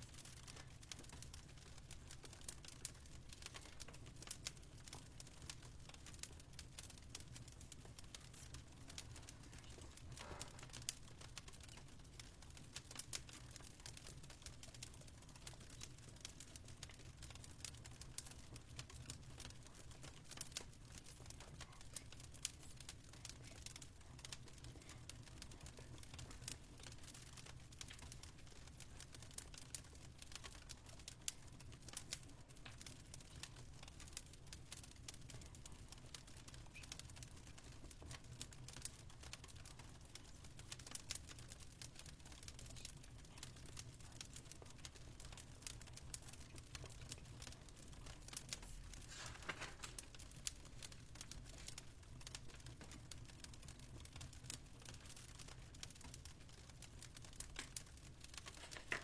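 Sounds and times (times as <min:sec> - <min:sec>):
fireplace crackling: 0:00.0 - 0:59.0.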